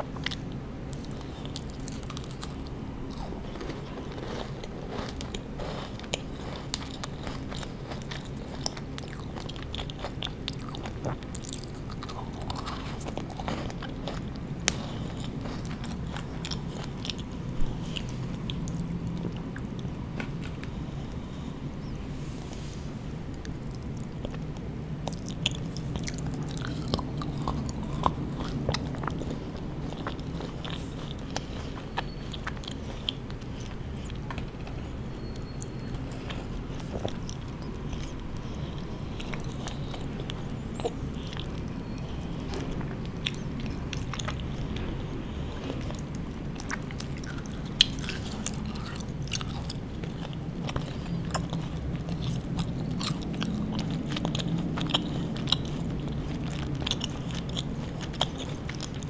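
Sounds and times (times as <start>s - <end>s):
chewing candy mouth sounds: 0.0s - 22.0s, 23.1s - 59.0s
low hum: 0.0s - 59.0s.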